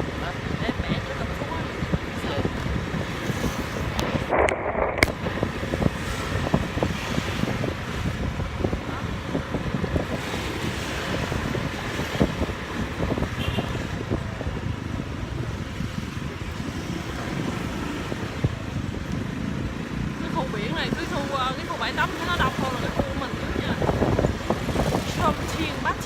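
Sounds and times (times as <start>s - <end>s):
road traffic: 0.0s - 26.0s
wind buffeting microphone: 0.0s - 26.0s.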